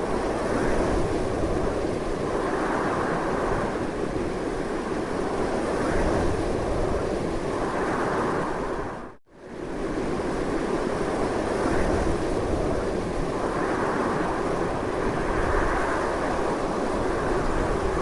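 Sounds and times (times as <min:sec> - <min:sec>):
strong wind blowing: 0:00.0 - 0:18.0.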